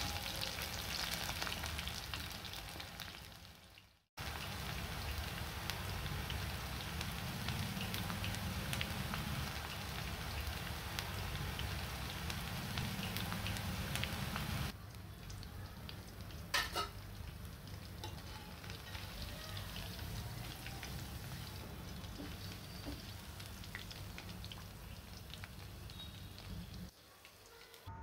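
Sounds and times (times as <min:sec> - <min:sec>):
food deep-frying in oil: 0:00.0 - 0:27.9.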